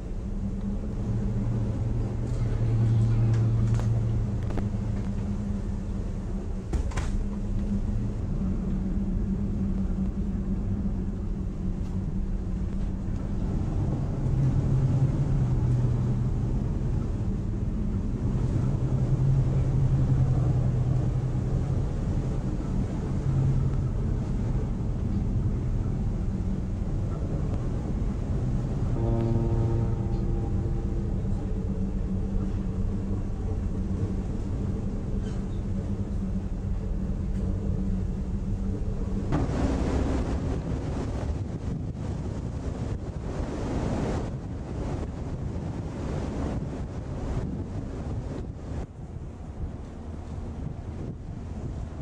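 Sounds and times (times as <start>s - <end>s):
ship engine rumble and drone: 0.0s - 52.0s.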